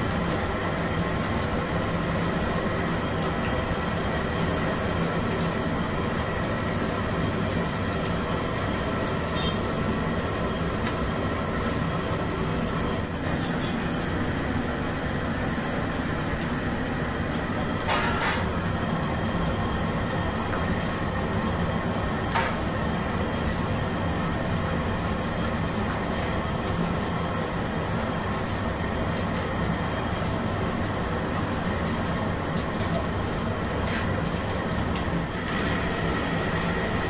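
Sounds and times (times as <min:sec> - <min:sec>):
oil sizzling: 0:00.0 - 0:37.0.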